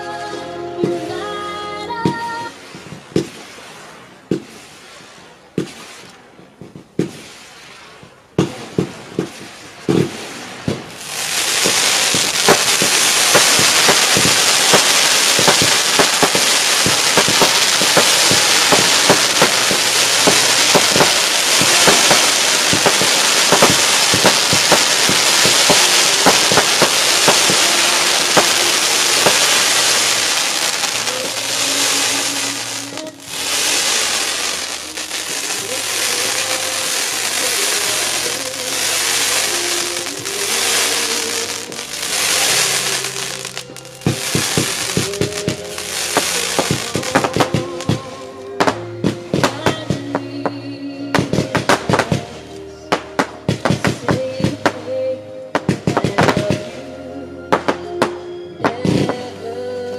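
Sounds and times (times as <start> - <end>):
fireworks crackling pops: 0.8 - 56.8, 57.5 - 59.3
firework bangs: 2.1 - 50.3, 51.2 - 54.8.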